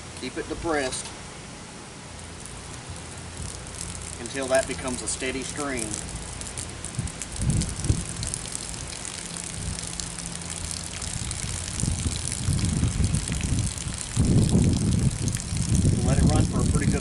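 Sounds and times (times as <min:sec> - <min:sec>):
water and air sputtering from wand: 0:02.2 - 0:17.0.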